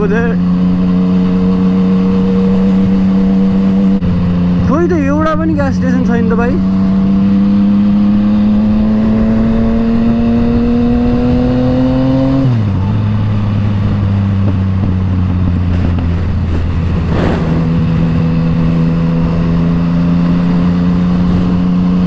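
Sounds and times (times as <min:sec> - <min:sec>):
motorcycle engine under way: 0:00.0 - 0:22.0.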